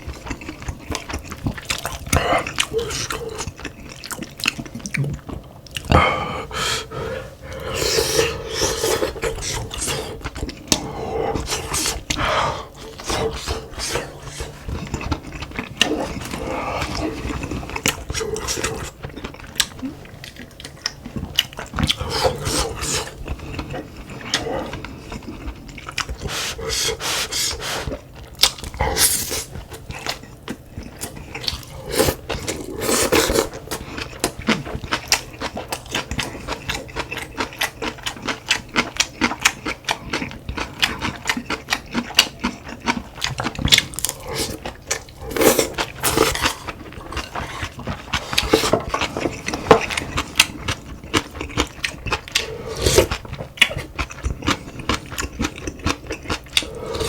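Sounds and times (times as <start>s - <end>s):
chewing and biting: 0.0s - 6.0s, 7.5s - 57.0s.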